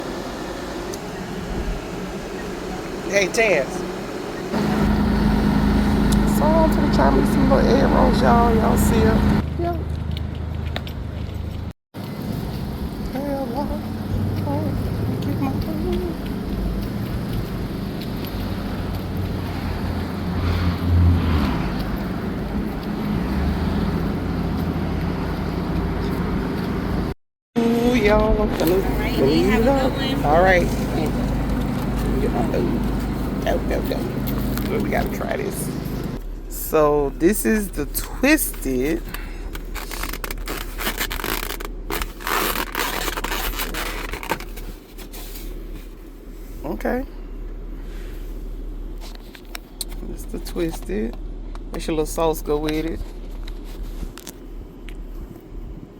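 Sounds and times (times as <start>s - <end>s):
vehicle engine humming: 0.0s - 55.9s.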